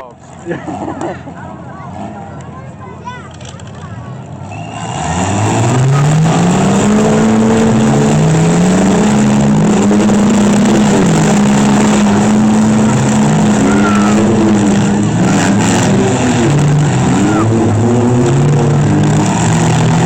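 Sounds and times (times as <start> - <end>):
several engines revving: 0.0 - 20.0.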